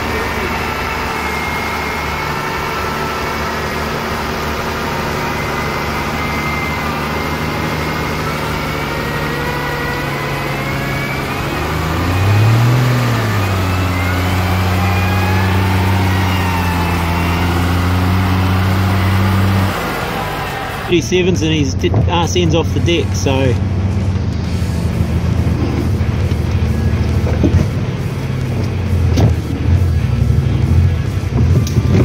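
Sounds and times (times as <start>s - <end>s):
high winch whine: 0.0s - 32.0s
truck engine running: 0.0s - 32.0s.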